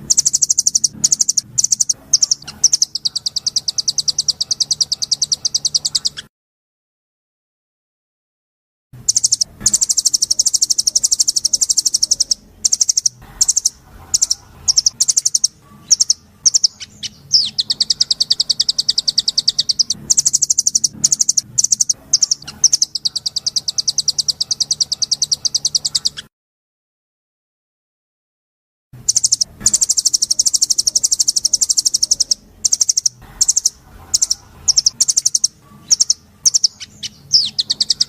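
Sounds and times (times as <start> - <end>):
bird calls: 0.0 - 6.3, 9.0 - 26.3, 29.0 - 38.0
songbird trilling: 0.0 - 6.3, 9.0 - 26.3, 29.0 - 38.0.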